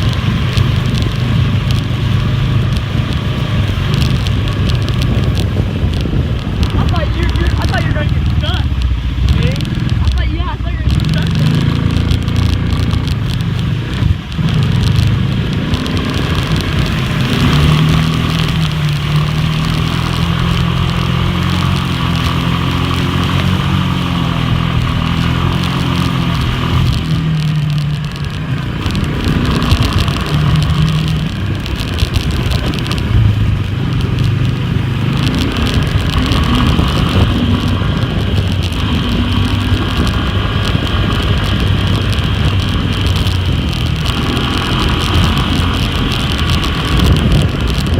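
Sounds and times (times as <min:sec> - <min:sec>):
atv engine running: 0:00.0 - 0:47.9.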